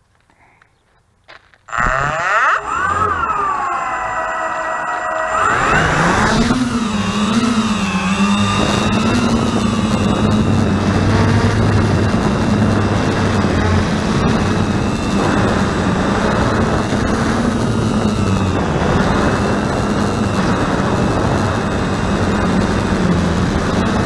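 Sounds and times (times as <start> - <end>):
quadcopter propellers buzzing: 1.7 - 24.0.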